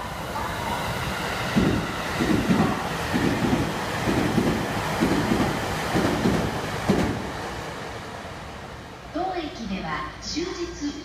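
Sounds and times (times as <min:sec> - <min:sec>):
passing train rumble: 0:00.0 - 0:11.0.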